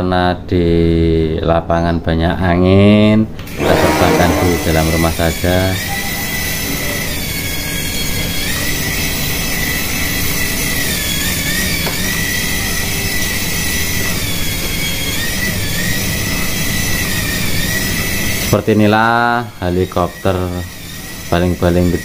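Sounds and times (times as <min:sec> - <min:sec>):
toy helicopter motor whine: 0:03.4 - 0:22.0.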